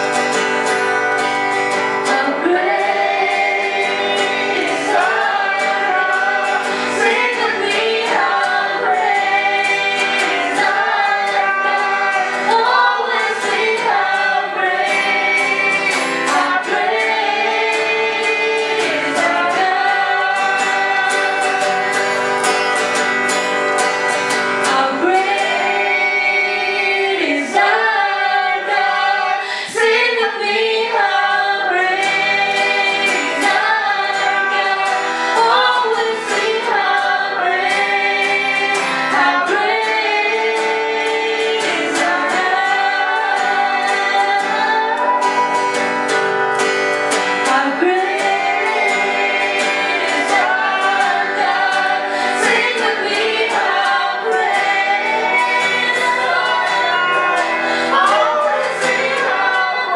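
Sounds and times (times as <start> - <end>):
strummed acoustic guitar: 0.0 - 59.9
woman singing: 2.0 - 22.2, 24.5 - 46.2, 47.1 - 59.9.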